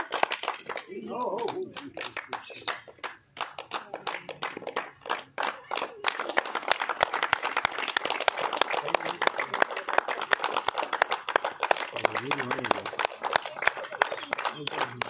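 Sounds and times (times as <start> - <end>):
people clapping: 0.0 - 15.0.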